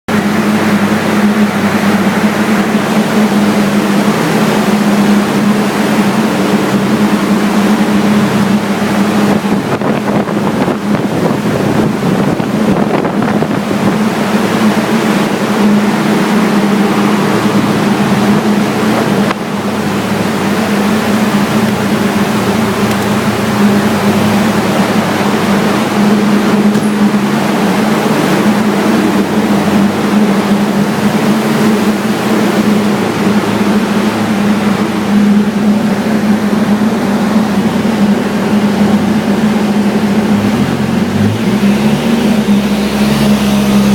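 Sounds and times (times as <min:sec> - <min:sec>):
turbocharged car engine under load: 0:00.0 - 0:43.9.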